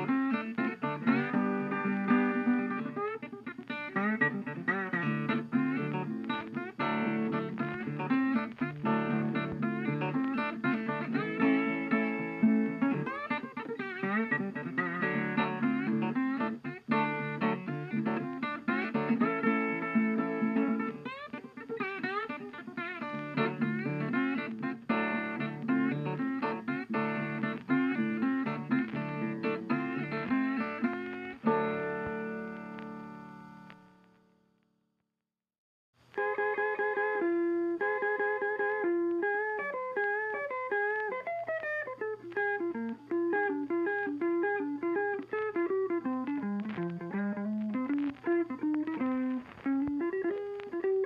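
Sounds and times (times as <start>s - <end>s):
plucked guitar tune: 0.0s - 34.6s, 36.0s - 51.0s.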